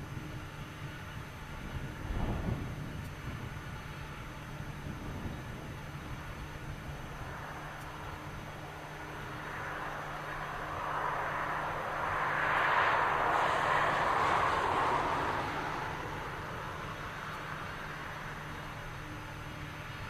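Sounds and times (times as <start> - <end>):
airplane passing: 0.0 - 20.0.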